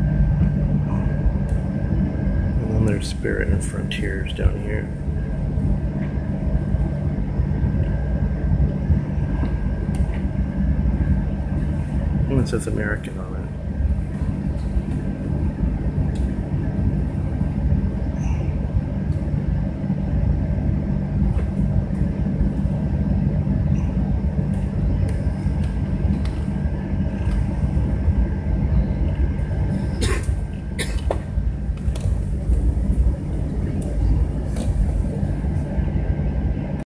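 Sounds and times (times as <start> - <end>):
faint steady whine: 0.0 - 36.8
jet engines rumbling: 0.0 - 36.9.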